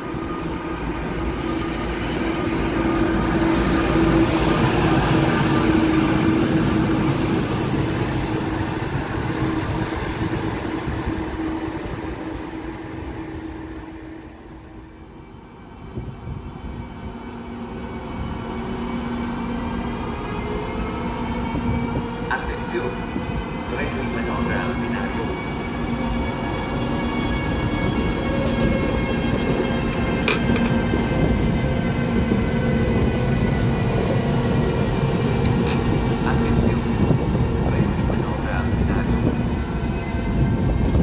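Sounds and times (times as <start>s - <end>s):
electric locomotive hum and whine: 0.0s - 41.0s.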